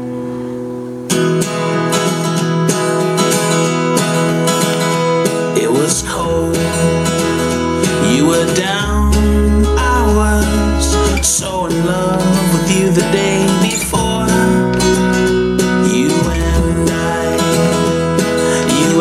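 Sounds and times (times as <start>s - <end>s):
bass line: 0.0s - 19.0s
strummed acoustic guitar: 0.0s - 19.0s.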